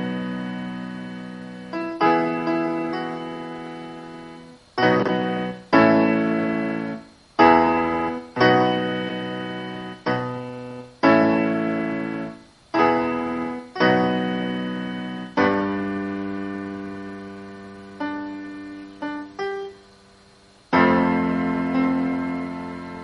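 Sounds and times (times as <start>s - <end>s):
piano chords: 0.0s - 23.0s.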